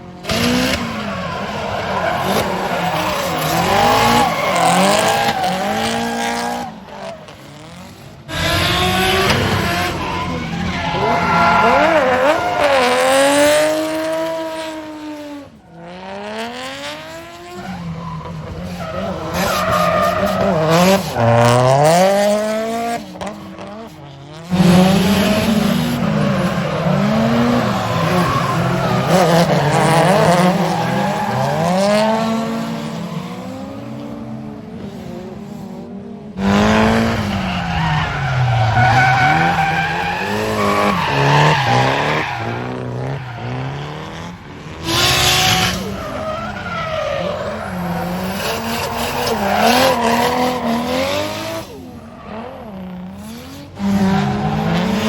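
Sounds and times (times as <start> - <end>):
car engines revving: 0.0 - 55.0
tyres squealing and skidding: 0.2 - 34.1, 36.4 - 55.0.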